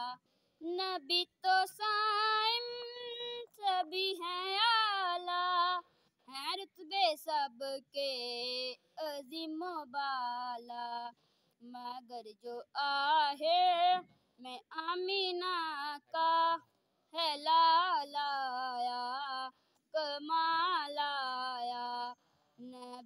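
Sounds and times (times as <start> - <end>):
boy singing unaccompanied: 0.0 - 16.6, 17.2 - 23.0.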